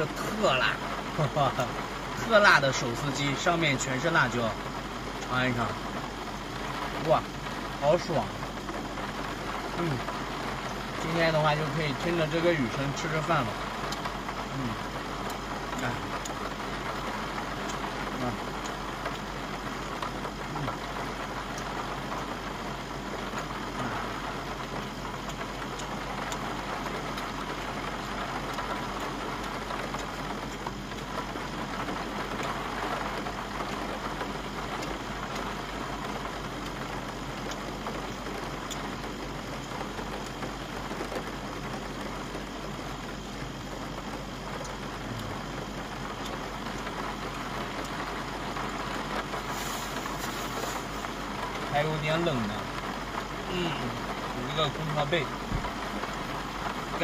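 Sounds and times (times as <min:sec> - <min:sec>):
rain on a van roof: 0:00.0 - 0:57.0.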